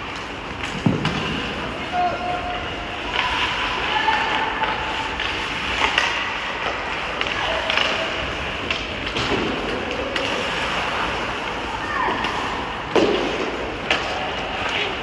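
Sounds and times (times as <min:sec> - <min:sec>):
hockey sticks and puck clacking: 0:00.0 - 0:01.7, 0:02.6 - 0:15.0
skate blades scraping ice: 0:02.6 - 0:15.0.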